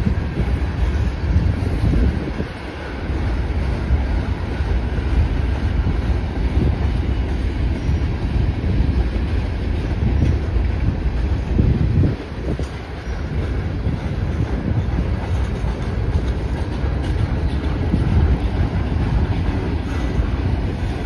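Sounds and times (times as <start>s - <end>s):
train wheels clacking: 0.0s - 21.0s
train wheels rumbling on rail: 0.0s - 21.0s.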